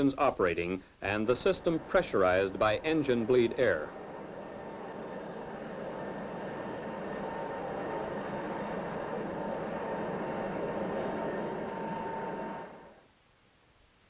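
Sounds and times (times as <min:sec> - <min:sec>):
jet engines running: 0:01.0 - 0:13.0.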